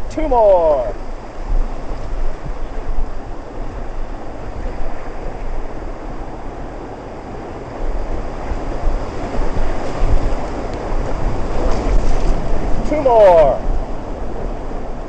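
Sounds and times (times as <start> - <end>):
wind buffeting microphone: 0.0 - 15.0
whitewater rapids rushing: 2.1 - 15.0.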